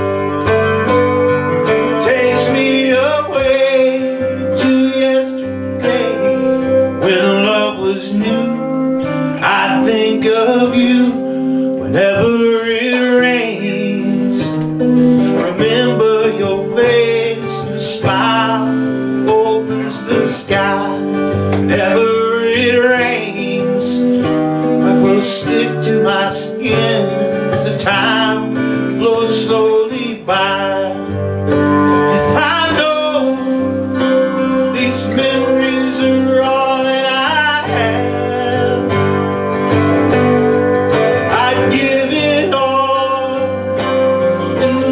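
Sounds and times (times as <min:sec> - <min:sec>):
electric guitar: 0:00.0 - 0:44.9
strummed acoustic guitar: 0:00.0 - 0:44.9
man singing: 0:00.8 - 0:44.9.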